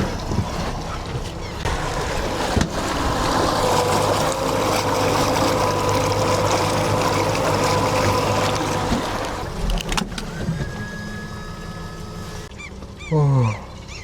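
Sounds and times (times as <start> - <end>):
boat engine running: 0.0 - 14.0
water and wind noise: 0.0 - 14.0.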